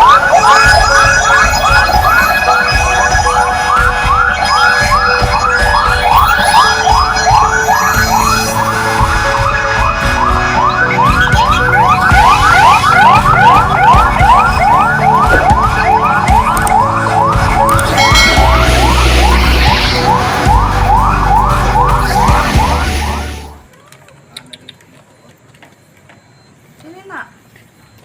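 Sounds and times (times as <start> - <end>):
siren yelping: 0.0 - 23.7.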